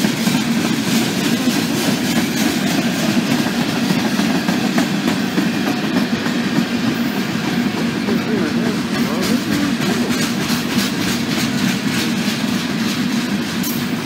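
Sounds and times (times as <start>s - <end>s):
clickety-clack of rail joints: 0.0s - 14.0s
steel wheels rumbling on rail: 0.0s - 14.0s.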